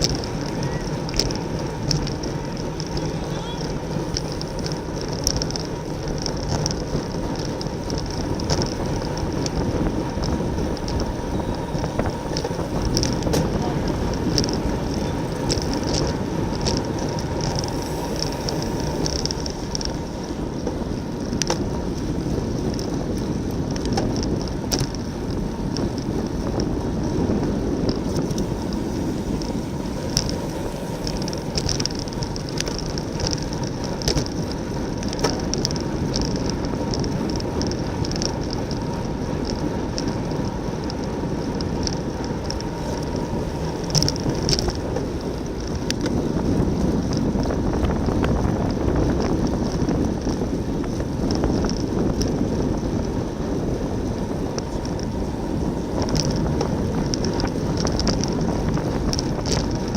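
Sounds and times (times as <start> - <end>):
tyre and road noise: 0.0 - 59.9
wind buffeting microphone: 0.0 - 59.9.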